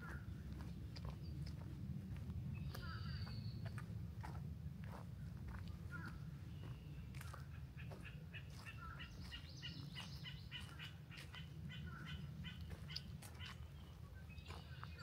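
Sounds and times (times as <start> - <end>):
songbird chirping: 0.0 - 15.0
steady low rumble: 0.0 - 15.0
walking footsteps: 0.0 - 15.0.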